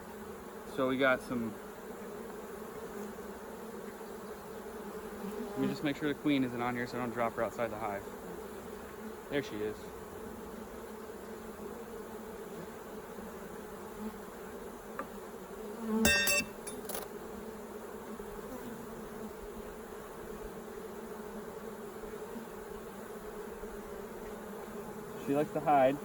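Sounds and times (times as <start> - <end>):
bees humming: 0.0 - 26.0
loud bee buzz: 0.0 - 26.0.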